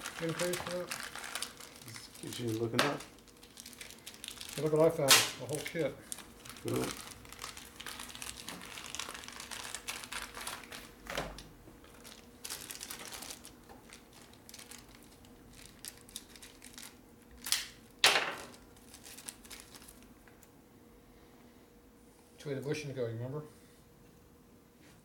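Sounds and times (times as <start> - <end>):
plastic packaging crinkling: 0.0 - 20.5
sudden plastic crackles: 0.0 - 20.5.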